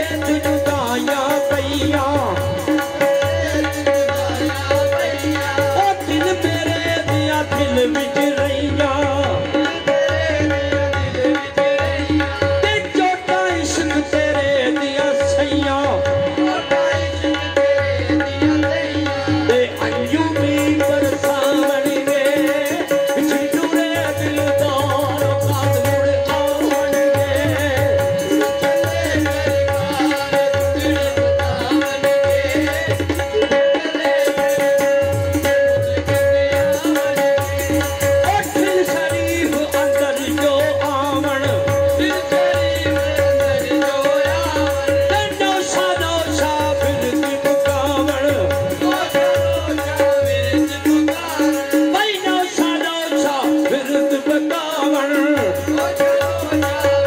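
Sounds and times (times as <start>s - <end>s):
man singing into a microphone: 0.0s - 57.0s.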